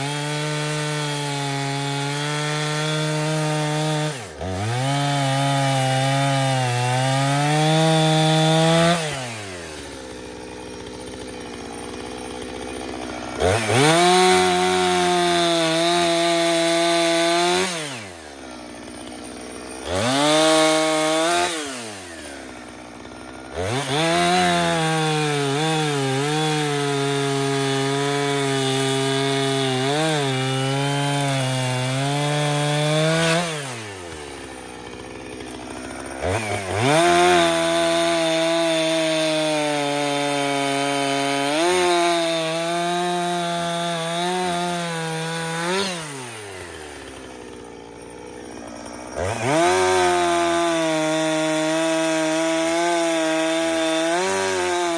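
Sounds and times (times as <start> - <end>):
chainsaw cutting wood: 0.0 - 54.9
chainsaw idling: 0.0 - 54.9.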